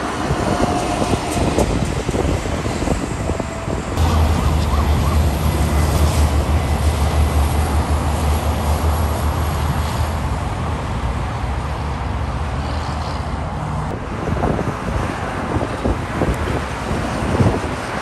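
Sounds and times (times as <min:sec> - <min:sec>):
diesel truck engine drone: 0:00.0 - 0:18.0
tyre and road noise: 0:00.0 - 0:18.0.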